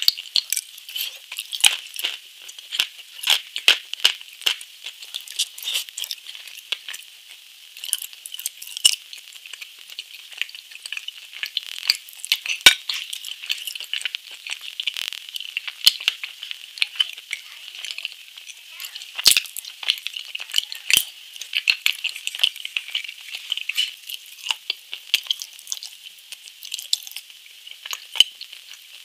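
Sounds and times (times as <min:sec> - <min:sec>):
person chewing: 0:00.0 - 0:29.0.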